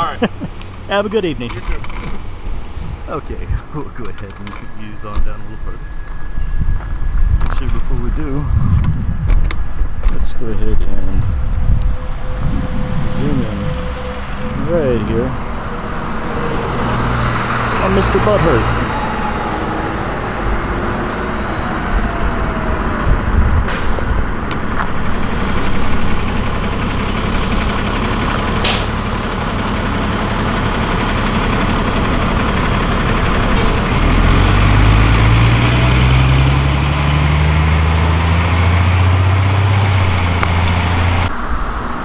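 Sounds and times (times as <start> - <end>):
heavy vehicle engine accelerating: 0.0 - 42.0
road traffic passing: 0.0 - 42.0.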